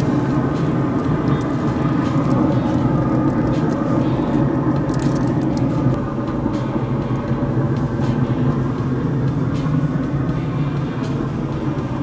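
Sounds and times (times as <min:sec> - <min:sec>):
smoker low hum: 0:00.0 - 0:12.0.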